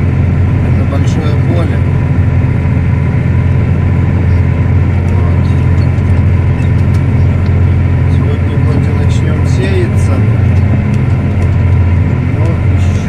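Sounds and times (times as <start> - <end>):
tractor diesel engine drone: 0.0 - 13.0.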